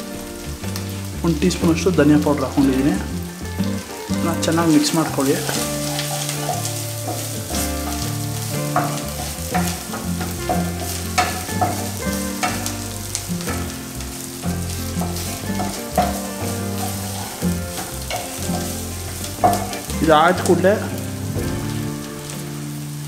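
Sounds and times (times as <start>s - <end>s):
food sizzling in oil: 0.0s - 23.0s
wooden spatula scraping pan: 0.2s - 23.0s.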